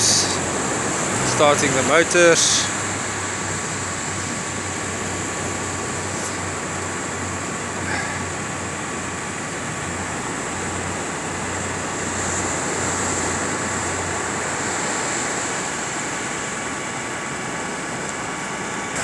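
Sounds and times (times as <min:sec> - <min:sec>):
engines humming: 0:00.0 - 0:19.0
surf hissing: 0:00.0 - 0:19.0
wind: 0:00.0 - 0:19.0.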